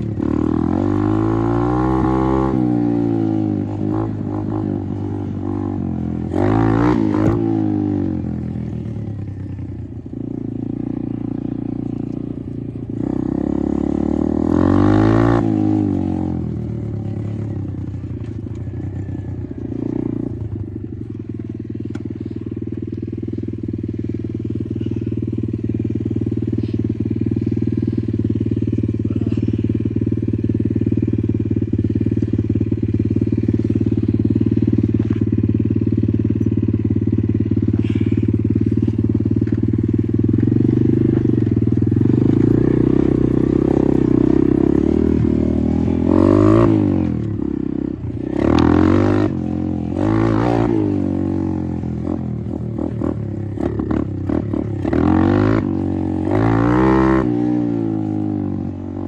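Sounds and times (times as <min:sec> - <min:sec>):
dirt bike engine revving: 0:00.0 - 0:20.8, 0:23.5 - 0:59.0.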